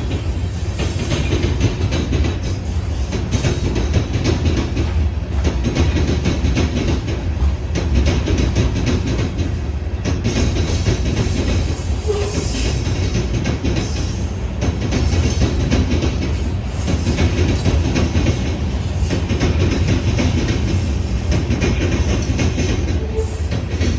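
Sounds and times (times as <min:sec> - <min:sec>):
freight train rumbling: 0:00.0 - 0:23.9
train wheels clacking: 0:00.0 - 0:23.9.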